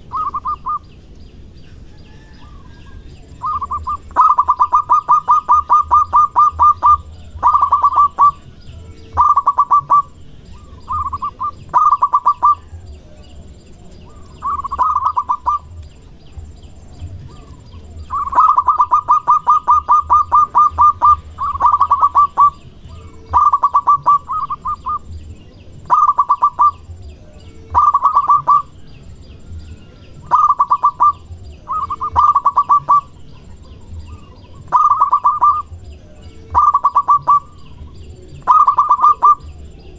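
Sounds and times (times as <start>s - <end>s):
dove cooing: 0.0s - 0.9s, 1.9s - 39.9s.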